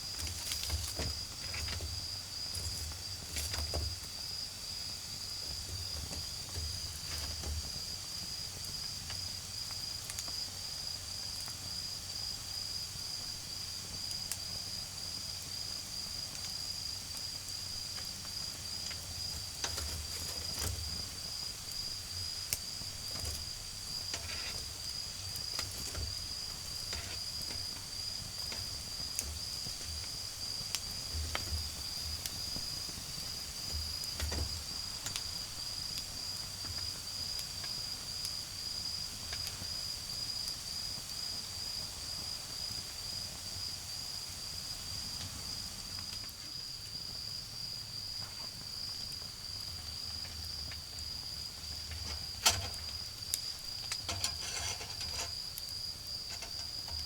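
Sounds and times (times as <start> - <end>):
crickets trilling: 0.0 - 57.0
wood fire crackling and popping: 0.0 - 57.0.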